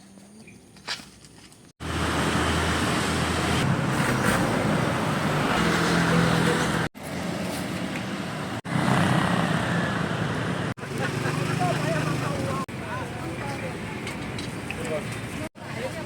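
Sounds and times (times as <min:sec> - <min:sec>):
road traffic rush: 0:00.7 - 0:16.0.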